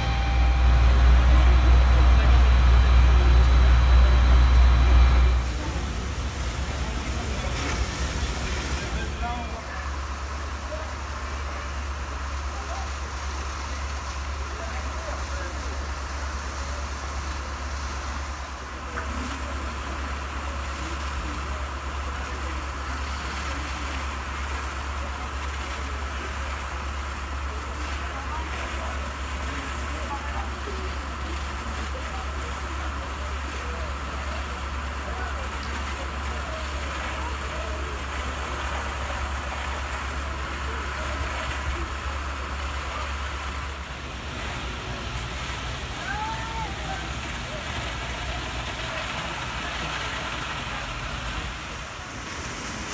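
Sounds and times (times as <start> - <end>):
diesel engine running: 0.0 - 52.9
faint voices: 0.0 - 52.9.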